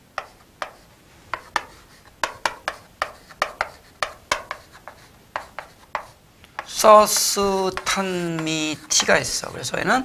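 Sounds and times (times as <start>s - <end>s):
chalk writing on a chalkboard: 0.0s - 9.5s.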